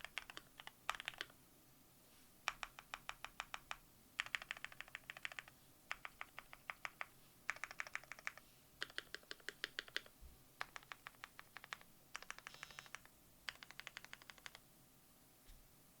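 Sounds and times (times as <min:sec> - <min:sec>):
mechanical keyboard typing: 0:00.0 - 0:01.4, 0:02.5 - 0:14.6.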